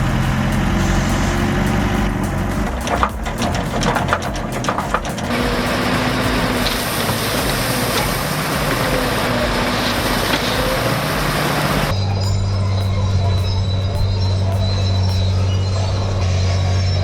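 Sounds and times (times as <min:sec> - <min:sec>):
earthmoving machine engine running: 0:00.0 - 0:17.0.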